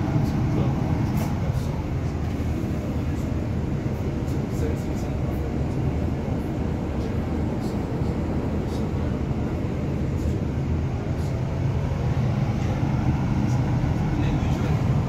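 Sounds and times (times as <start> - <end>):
bus engine low rumble: 0.0 - 15.0.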